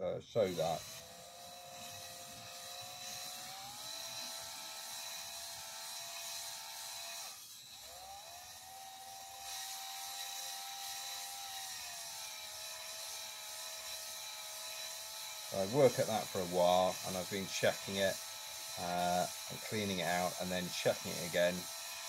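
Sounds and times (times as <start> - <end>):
drill motor whining: 0.4 - 22.0.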